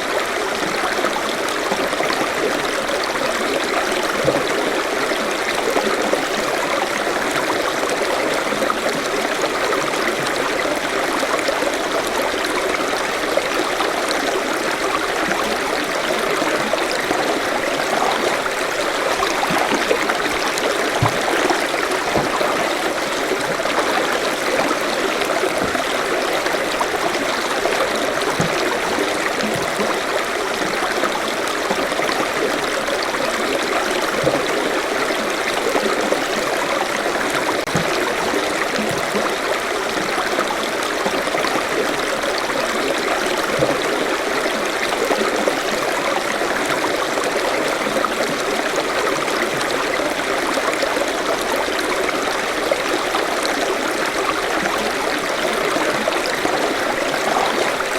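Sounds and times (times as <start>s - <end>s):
small water splashes: 0.0s - 45.5s, 52.1s - 57.9s
stream flowing over rocks: 0.0s - 57.9s.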